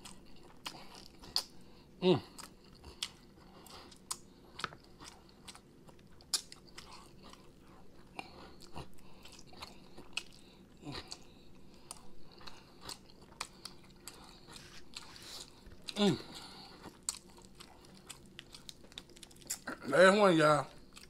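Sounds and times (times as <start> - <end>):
man chewing chicken wings: 0.0 - 19.9, 20.6 - 21.0.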